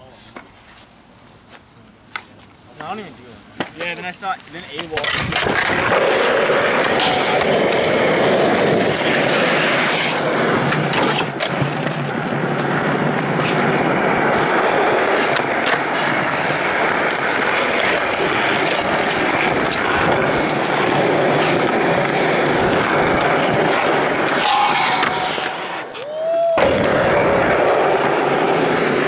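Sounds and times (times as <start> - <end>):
skateboard wheels rolling on asphalt: 0.3 - 29.0
skateboard clacks: 4.8 - 29.0.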